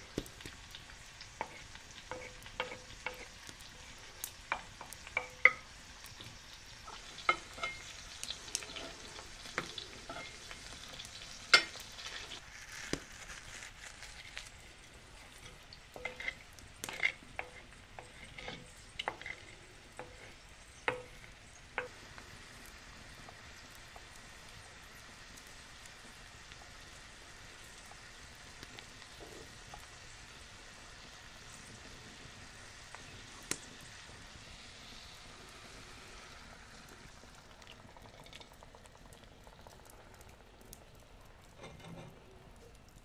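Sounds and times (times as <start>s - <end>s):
food sizzling and popping in pan: 0.0s - 43.0s.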